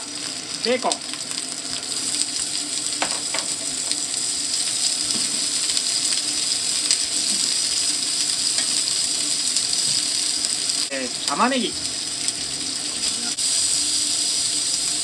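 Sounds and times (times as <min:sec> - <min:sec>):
bacon sizzling in oil: 0:00.0 - 0:15.0.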